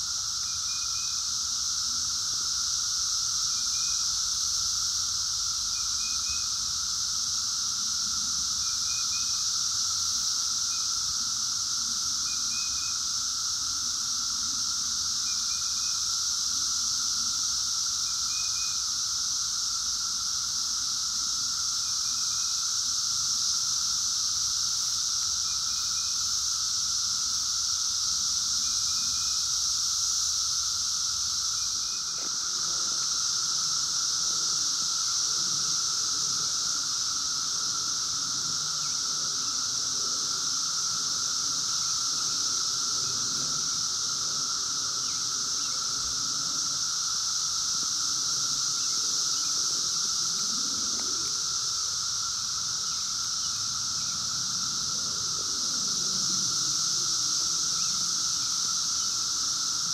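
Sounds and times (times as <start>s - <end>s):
cicadas buzzing drone: 0.0s - 59.9s.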